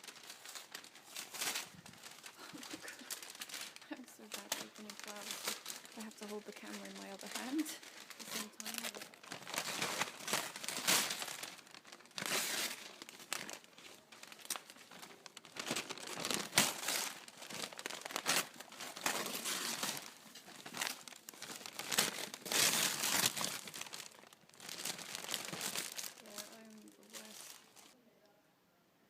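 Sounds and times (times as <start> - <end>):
wrapping paper crumpling and tearing: 0.0 - 28.0.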